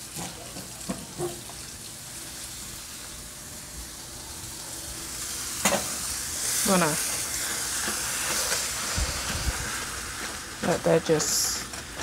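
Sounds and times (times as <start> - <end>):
onion frying in butter: 0.0 - 12.0.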